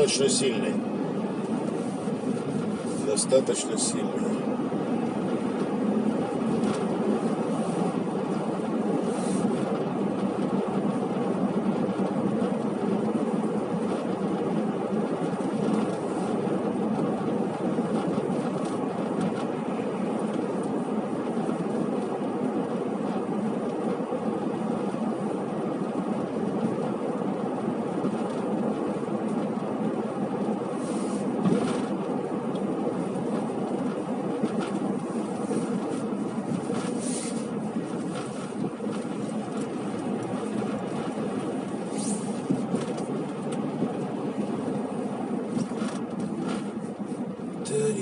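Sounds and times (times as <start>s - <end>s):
car road and engine noise: 0.0s - 48.0s.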